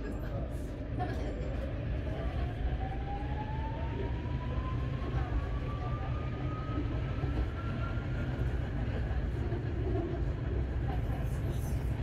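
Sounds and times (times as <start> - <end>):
tram rumble: 0.0 - 12.0.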